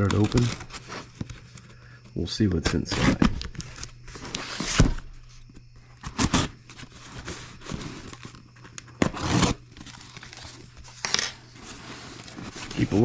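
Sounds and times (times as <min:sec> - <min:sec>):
packing tape tearing from cardboard: 0:00.0 - 0:01.3, 0:02.8 - 0:05.0, 0:06.0 - 0:13.0
cardboard scraping: 0:00.0 - 0:01.6, 0:02.6 - 0:13.0.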